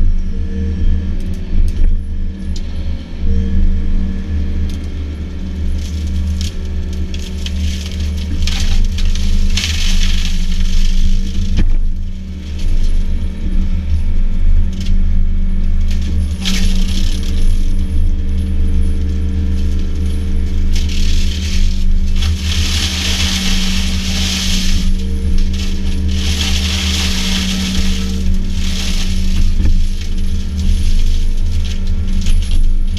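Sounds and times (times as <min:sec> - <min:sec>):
diesel engine running under load: 0:00.0 - 0:32.9
mulcher shredding vegetation: 0:05.2 - 0:32.9.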